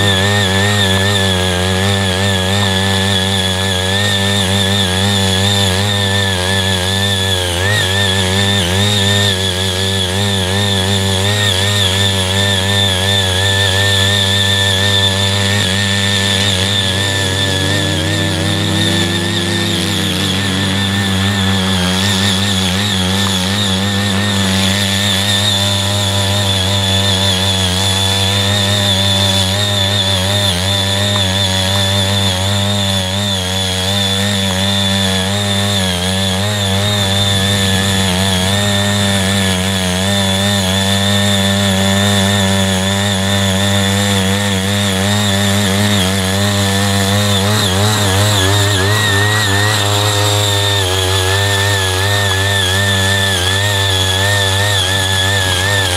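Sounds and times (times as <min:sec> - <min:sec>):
power tiller engine running: 0:00.0 - 0:55.9
tines churning through soil: 0:00.0 - 0:55.9.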